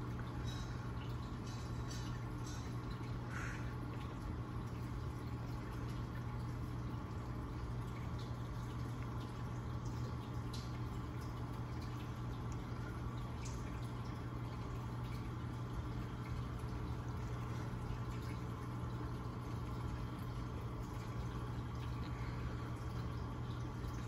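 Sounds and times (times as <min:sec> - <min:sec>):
aquarium pumps humming: 0:00.0 - 0:24.0
faint water drips: 0:00.0 - 0:24.0
water trickling: 0:00.0 - 0:24.0.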